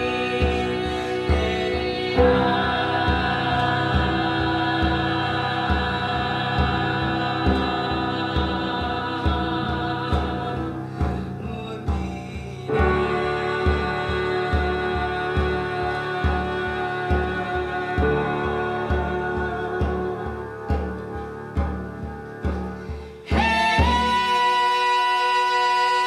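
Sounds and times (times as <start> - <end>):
slow drum beat: 0.0 - 25.2
women singing in harmony: 0.0 - 26.0.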